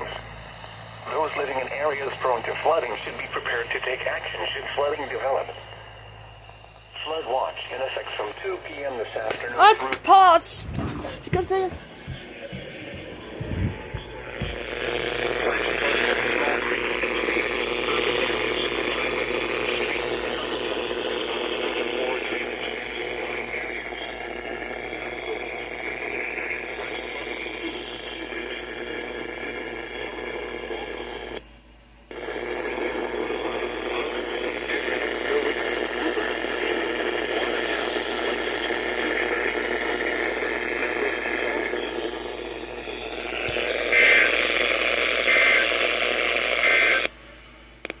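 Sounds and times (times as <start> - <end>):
static-filled radio hiss: 0.0 - 48.0.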